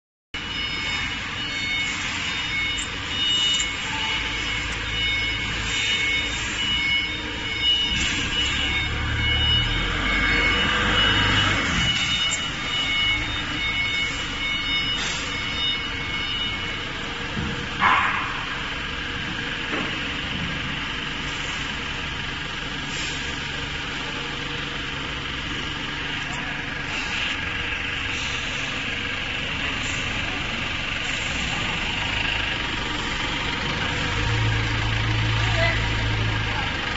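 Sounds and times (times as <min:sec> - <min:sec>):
factory noise: 0:00.4 - 0:36.9
vehicle reversing alarm beeps: 0:00.4 - 0:36.9
low engine rumble: 0:02.3 - 0:36.9.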